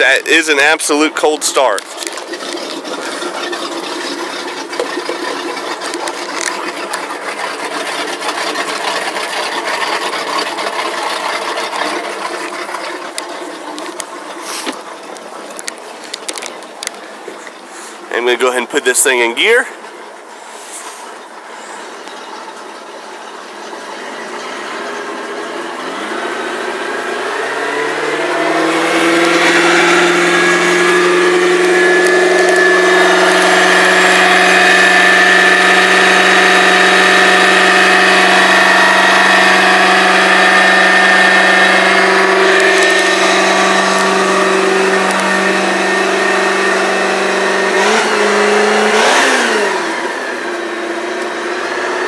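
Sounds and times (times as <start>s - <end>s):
boat engine idling: 0.0s - 52.0s.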